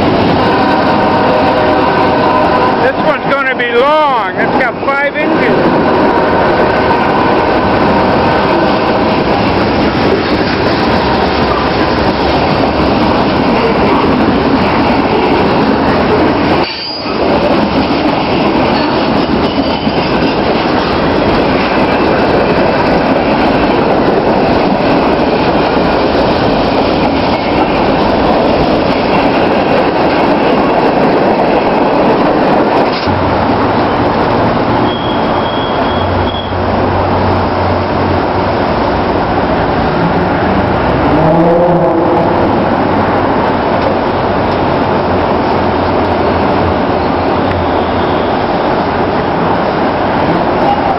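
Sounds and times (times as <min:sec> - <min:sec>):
rail car wheels rumbling on rails: 0:00.0 - 0:50.9.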